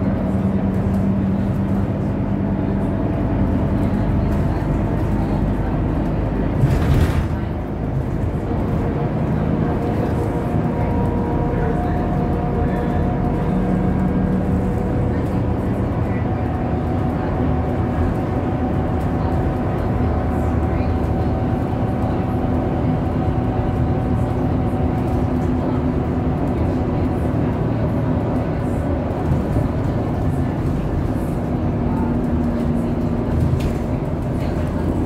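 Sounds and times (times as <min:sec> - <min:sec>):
bus engine drone: 0:00.0 - 0:35.0.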